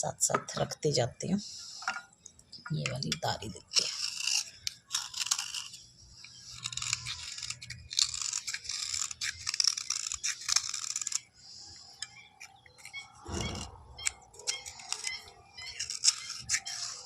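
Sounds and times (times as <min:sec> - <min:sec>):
scratching on a coated bar: 0:02.8 - 0:17.0.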